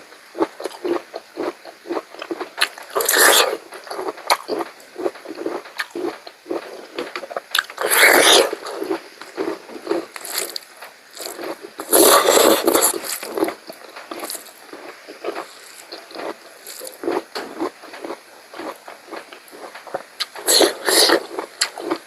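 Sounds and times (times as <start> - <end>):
wet chewing and mouth smacks: 0.4 - 22.0.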